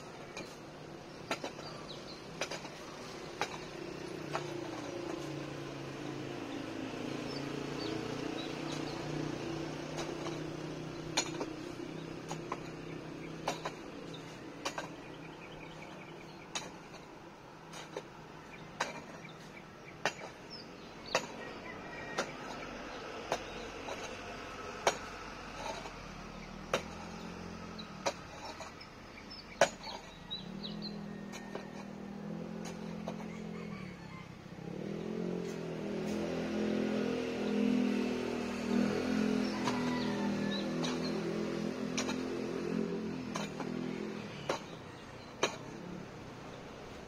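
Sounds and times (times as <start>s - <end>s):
digging tool striking stony soil: 0.0s - 17.1s, 17.7s - 33.5s, 38.4s - 46.1s.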